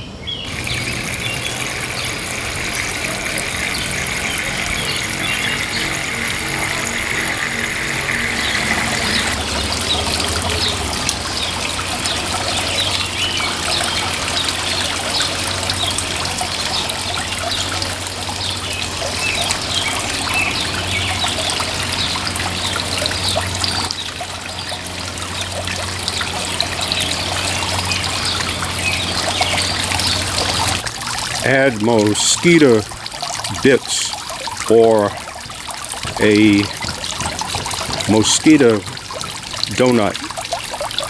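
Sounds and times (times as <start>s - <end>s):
steady low hum: 0.1s - 41.0s
fountain water trickling and splashing: 0.2s - 41.0s.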